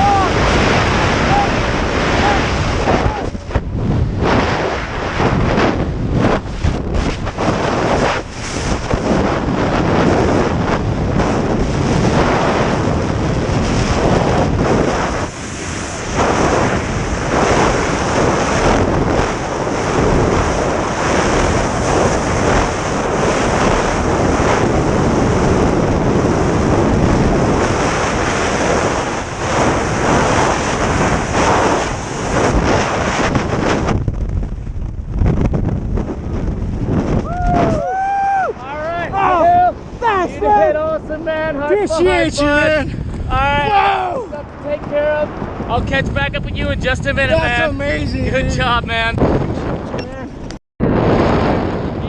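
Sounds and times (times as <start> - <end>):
wind roar on microphone: 0.0 - 52.0.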